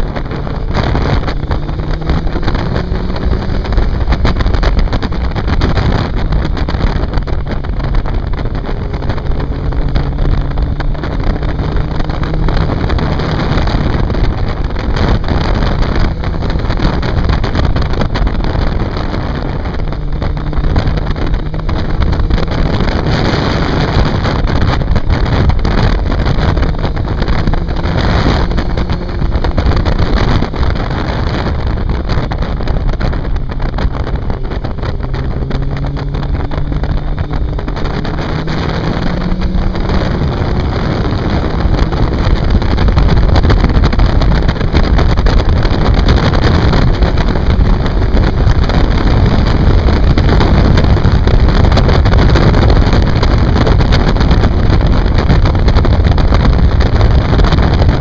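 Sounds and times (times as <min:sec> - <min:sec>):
motorcycle engine revving: 0:00.0 - 0:58.0
wind buffeting microphone: 0:00.0 - 0:58.0.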